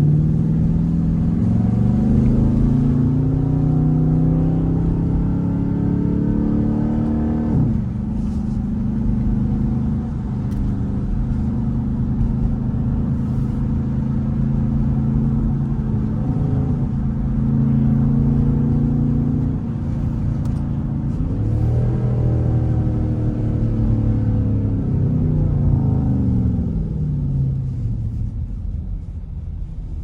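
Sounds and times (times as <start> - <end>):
engine exhaust revving: 0.0 - 28.3.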